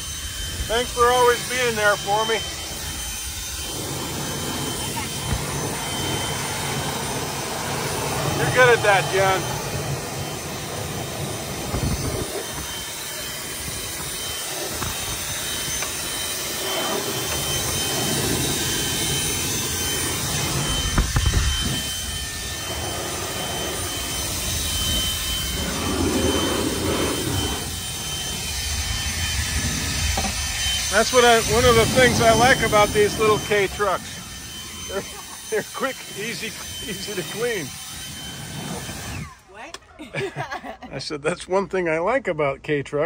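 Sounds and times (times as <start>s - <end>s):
blower rushing air: 0.0s - 40.3s.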